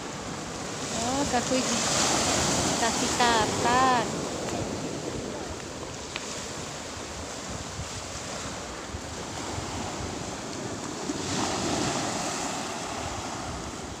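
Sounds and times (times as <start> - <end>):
surf washing onto pebble beach: 0.0 - 14.0.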